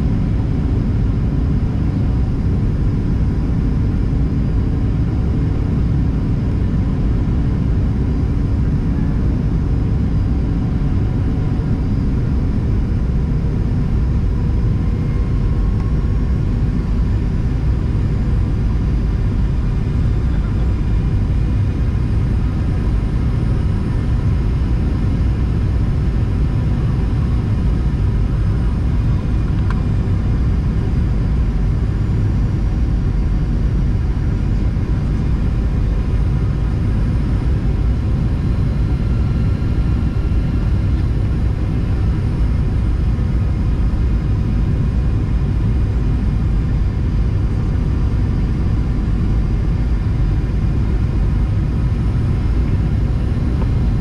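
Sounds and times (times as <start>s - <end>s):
airplane cabin rumble: 0.0s - 54.0s
faint steady whine: 0.0s - 54.0s.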